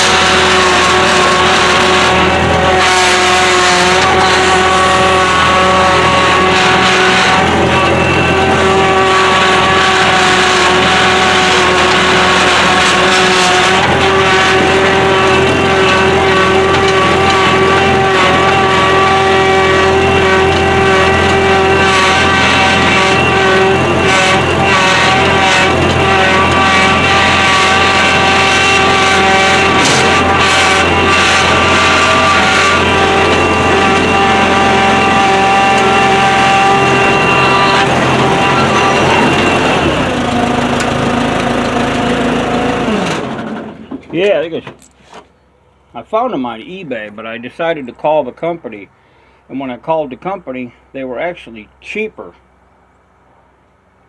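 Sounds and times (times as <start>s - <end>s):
tracks clattering: 0.0s - 45.3s
skid steer engine running: 0.0s - 45.5s.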